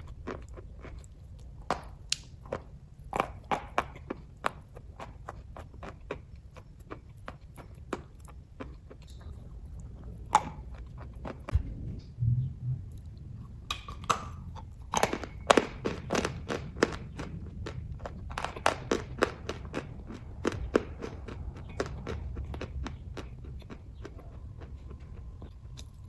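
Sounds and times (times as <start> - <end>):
person chewing with wet clicks: 0.0 - 11.6, 12.9 - 26.0.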